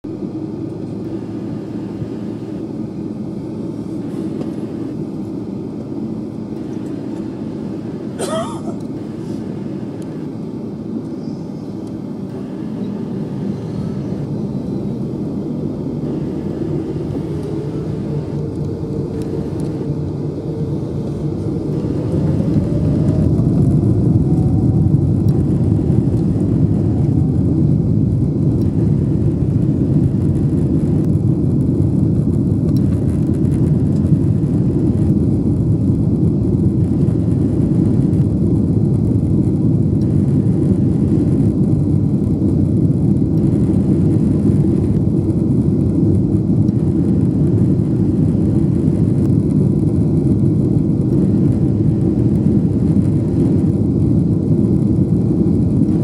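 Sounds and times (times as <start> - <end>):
airplane engines rumbling: 0.0 - 56.0
rising whine: 0.0 - 56.0.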